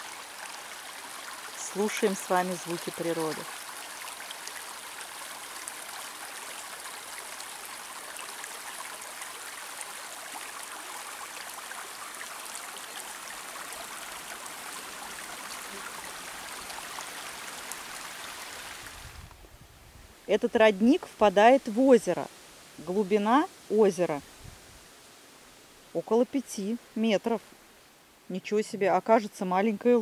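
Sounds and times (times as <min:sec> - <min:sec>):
brook babbling over stones: 0:00.0 - 0:19.4, 0:20.2 - 0:30.0.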